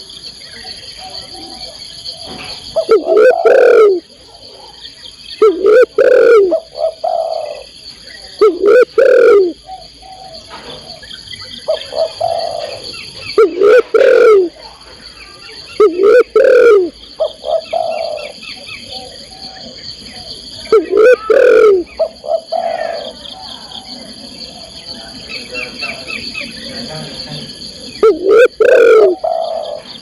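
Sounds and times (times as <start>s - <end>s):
high insect drone: 0.0s - 30.0s
dove cooing: 0.6s - 4.7s, 5.4s - 14.6s, 15.8s - 30.0s.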